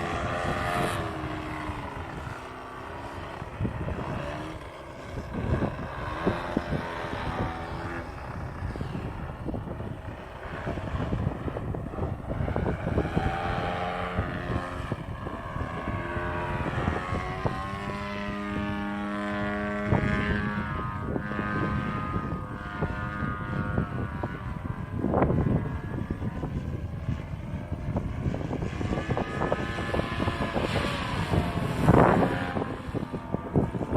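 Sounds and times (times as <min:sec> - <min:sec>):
model plane engine buzzing: 0:00.0 - 0:33.9.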